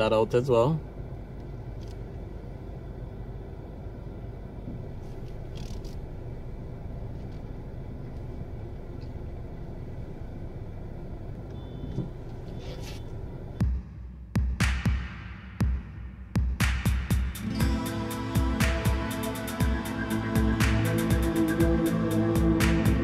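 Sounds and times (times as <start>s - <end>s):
car engine rumbling: 0.0s - 14.4s, 17.1s - 23.0s.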